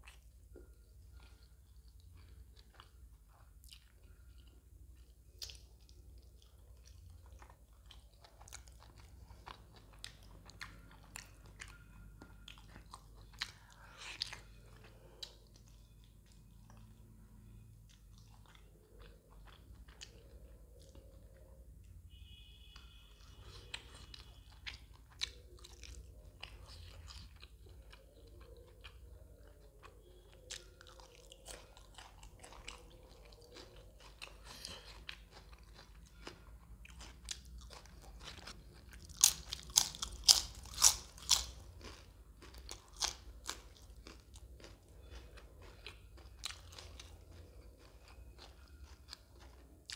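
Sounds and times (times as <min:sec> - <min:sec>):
man chewing and crunching food: 0:00.0 - 0:49.9.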